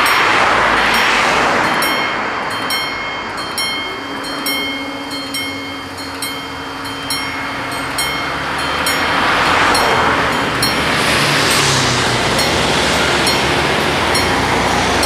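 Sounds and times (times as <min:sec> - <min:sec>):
broad rushing noise: 0:00.0 - 0:15.0
level crossing bells ringing: 0:00.0 - 0:15.0.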